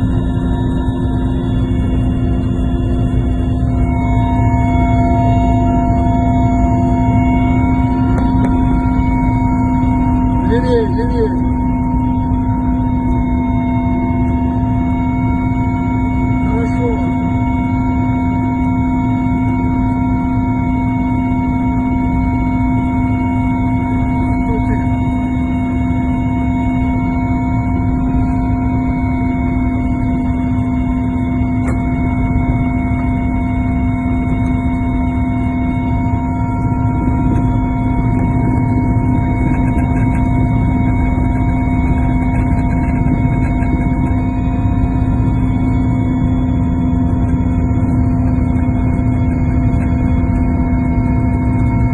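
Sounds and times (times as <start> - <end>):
constant whining tones: 0.0 - 51.9
helicopter cabin rumble: 0.0 - 51.9.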